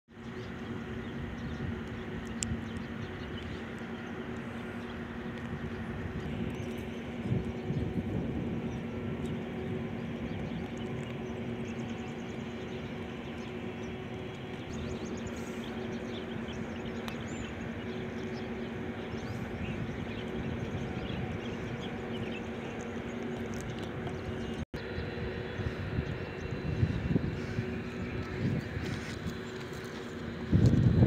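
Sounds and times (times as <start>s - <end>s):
low mechanical hum: 0.1s - 31.0s.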